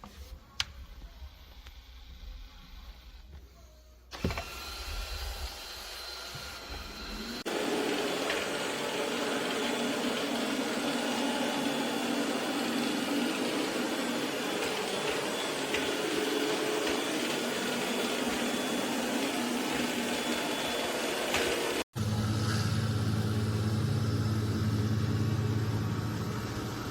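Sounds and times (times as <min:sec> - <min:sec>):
machine whirring: 0:04.2 - 0:26.9.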